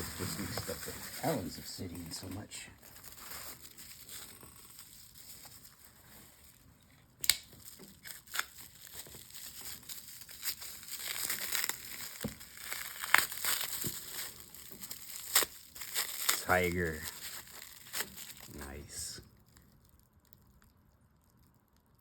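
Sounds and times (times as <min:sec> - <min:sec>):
wrapping crinkling and tearing: 0:00.0 - 0:20.8.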